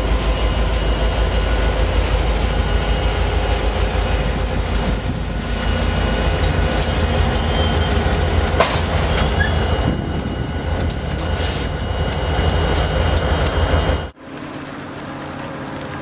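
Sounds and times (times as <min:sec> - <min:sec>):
diesel locomotive engine rumble: 0:00.0 - 0:16.0
wheels clicking over rail joints: 0:00.0 - 0:16.0.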